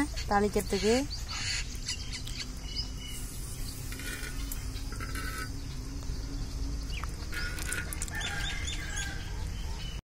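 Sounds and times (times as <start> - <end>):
bird calls: 0.0 - 10.0.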